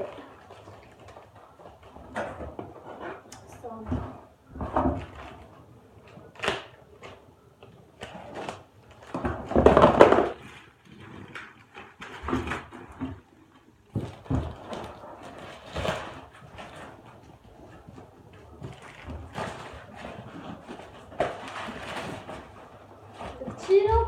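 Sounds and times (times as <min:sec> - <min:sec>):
cardboard rustling: 0:00.0 - 0:24.0.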